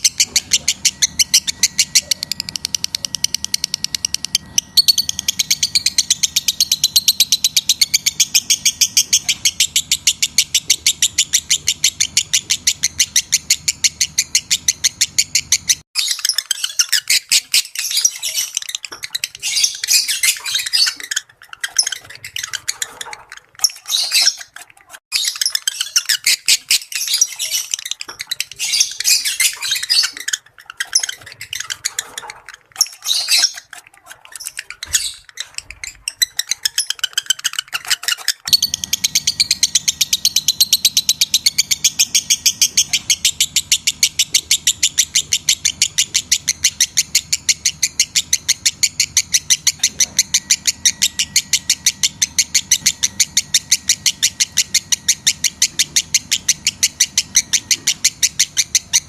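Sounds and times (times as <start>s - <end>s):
lovebird chirping and chattering: 0.0s - 59.0s.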